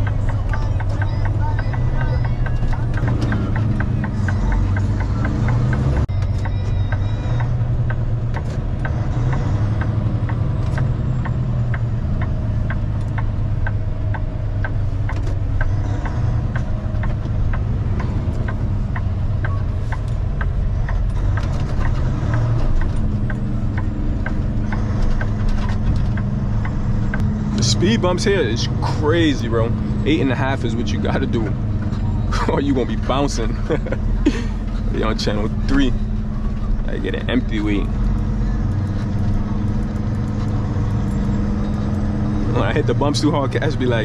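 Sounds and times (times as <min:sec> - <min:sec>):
diesel truck engine running: 0:00.0 - 0:44.0
light regular ticking: 0:00.0 - 0:44.0.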